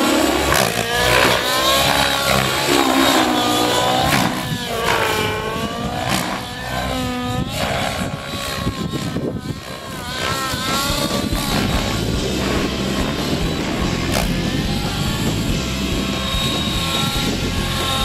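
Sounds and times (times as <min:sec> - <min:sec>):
model helicopter engine and rotor: 0:00.0 - 0:18.0.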